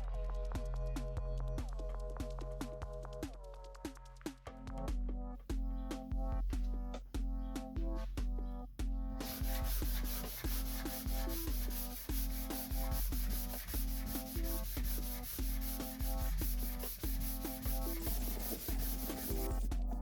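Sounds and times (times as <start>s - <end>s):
electronic music with deep bass: 0.0s - 20.0s.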